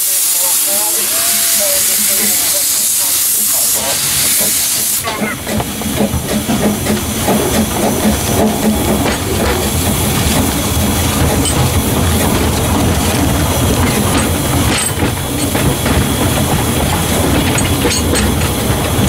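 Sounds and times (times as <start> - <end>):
loud hiss of steam: 0.0 - 19.0
steam locomotive exhaust beat: 0.0 - 19.0
locomotive rattling: 0.4 - 19.0.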